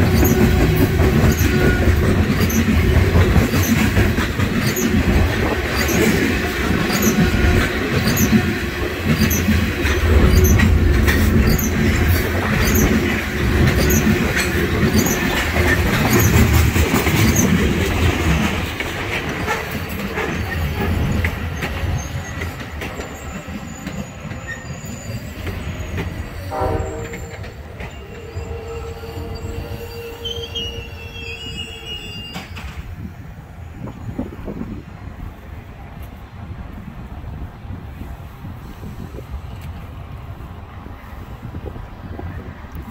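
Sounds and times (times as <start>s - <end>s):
regular clicking of rail cars: 0.0s - 42.9s
train wheels rumbling on rails: 0.0s - 42.9s.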